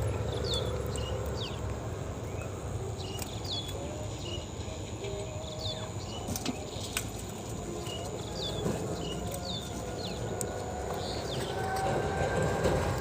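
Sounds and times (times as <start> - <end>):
bird chirping: 0.1 - 12.0.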